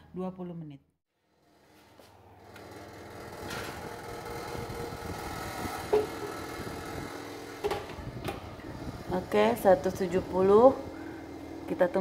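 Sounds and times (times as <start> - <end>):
oven fan humming: 1.2 - 12.0.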